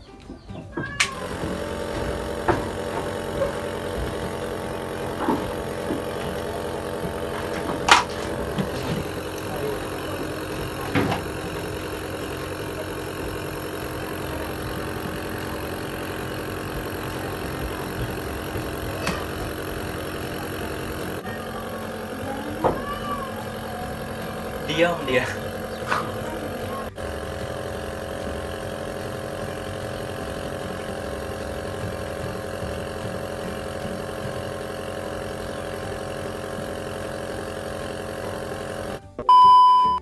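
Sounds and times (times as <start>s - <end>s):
nebulizer motor humming: 1.0s - 40.0s.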